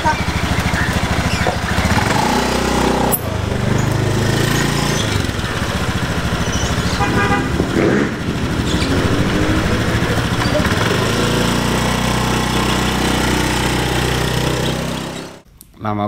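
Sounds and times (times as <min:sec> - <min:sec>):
scooter engine idling: 0:00.0 - 0:15.4.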